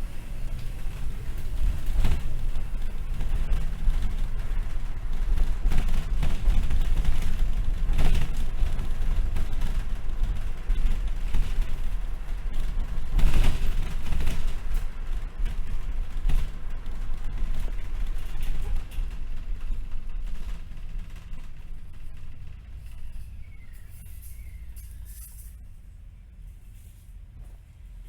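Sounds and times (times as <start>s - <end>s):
bus engine and road rumble: 0.0s - 28.0s.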